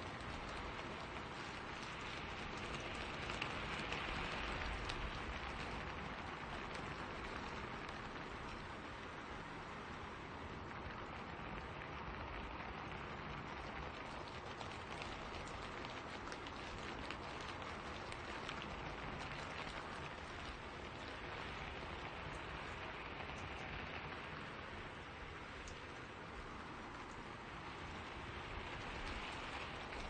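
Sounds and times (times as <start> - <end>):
raindrops ticking: 0.0 - 30.0
steady rain hissing: 0.0 - 30.0.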